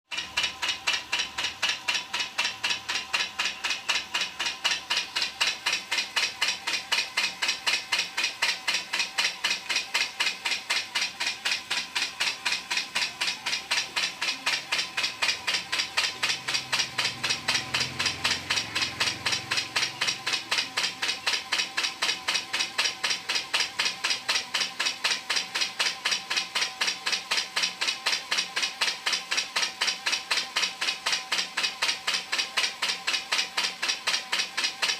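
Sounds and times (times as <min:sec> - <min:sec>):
machine clicking: 0:00.1 - 0:34.9.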